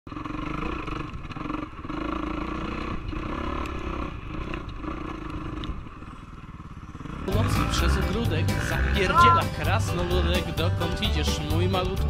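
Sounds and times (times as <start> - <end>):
motorcycle engine revving: 0.1 - 12.0.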